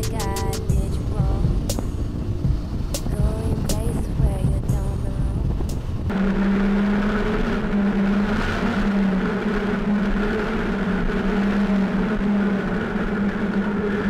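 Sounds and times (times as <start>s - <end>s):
vehicle engine humming steadily: 0.0s - 14.0s.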